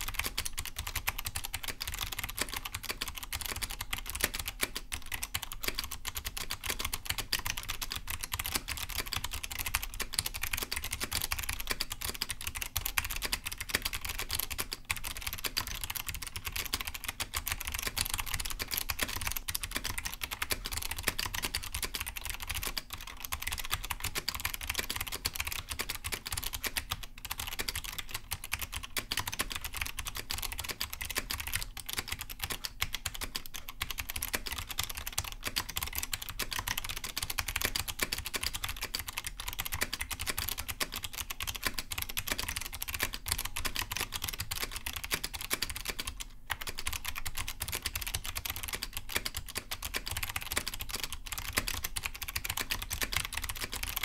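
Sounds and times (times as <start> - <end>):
clicky keyboard typing: 0.0 - 54.0.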